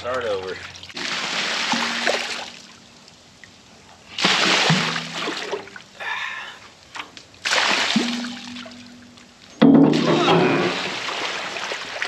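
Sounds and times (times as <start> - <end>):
water splashing and sloshing: 0.0 - 6.0, 6.6 - 12.0.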